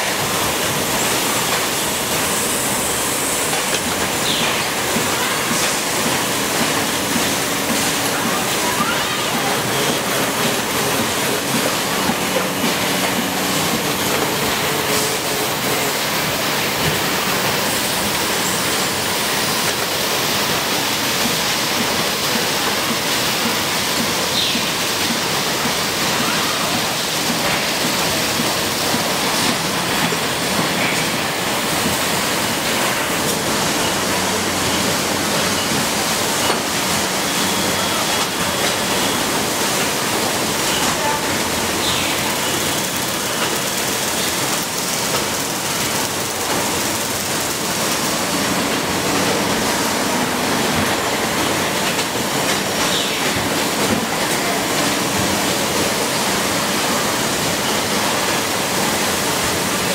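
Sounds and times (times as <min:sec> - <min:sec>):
production line hiss-like noise: 0:00.0 - 0:59.9.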